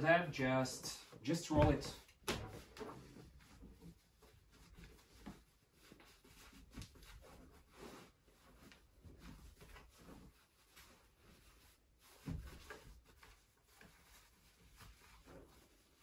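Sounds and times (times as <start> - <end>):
canvas cape rustling and scraping: 0.2 - 16.0.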